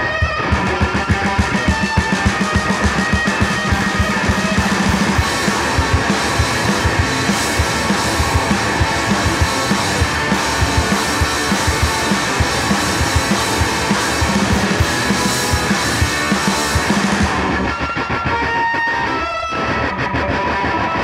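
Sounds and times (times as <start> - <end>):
driving drum beat: 0.0 - 18.5
electric guitar: 0.0 - 21.0
rock and roll band playing: 0.0 - 21.0.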